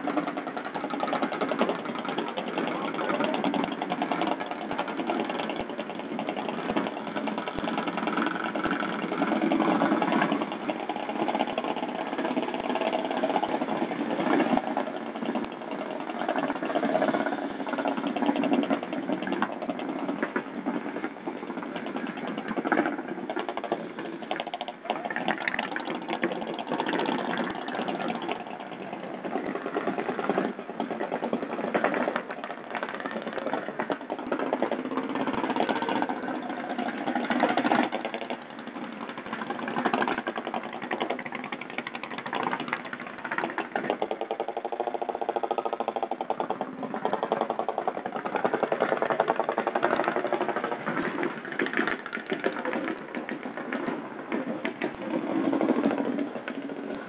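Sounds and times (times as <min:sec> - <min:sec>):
motorcycle engine idling: 0:00.0 - 0:53.6.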